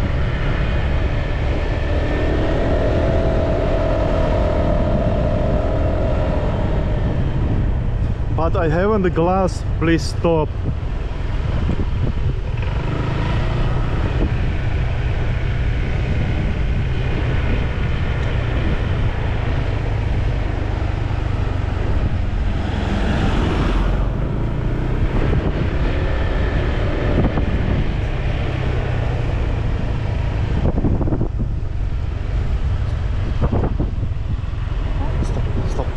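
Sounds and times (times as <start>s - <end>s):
road noise: 0.0s - 35.9s
wind buffeting microphone: 0.0s - 35.9s.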